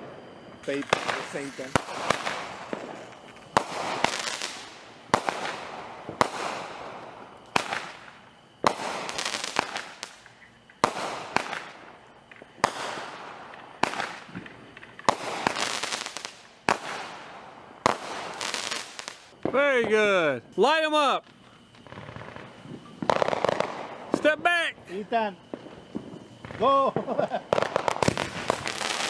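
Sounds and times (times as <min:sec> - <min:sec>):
fireworks bangs: 0:00.0 - 0:29.0
fireworks crackle: 0:00.0 - 0:29.0.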